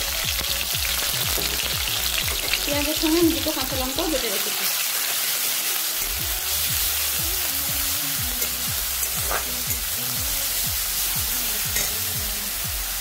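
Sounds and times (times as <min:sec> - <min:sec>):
background music: 0:00.0 - 0:13.0
onion paste sizzling in oil: 0:00.0 - 0:13.0.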